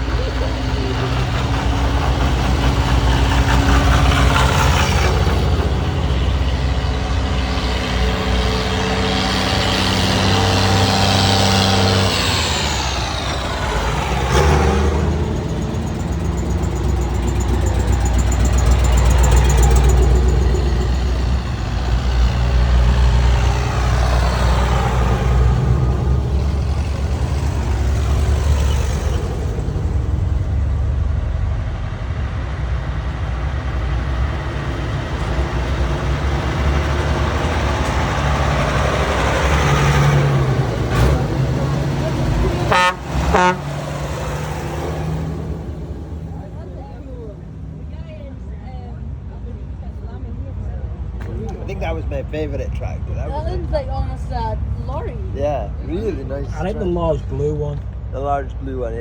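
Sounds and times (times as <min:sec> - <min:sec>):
tractor engines passing: 0:00.0 - 0:59.0.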